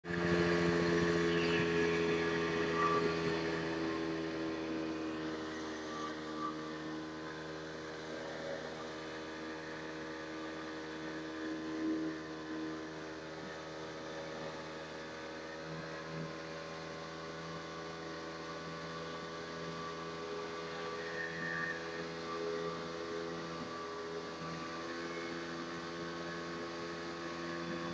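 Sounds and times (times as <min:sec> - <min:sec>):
motorboat engine running: 0:00.0 - 0:27.9.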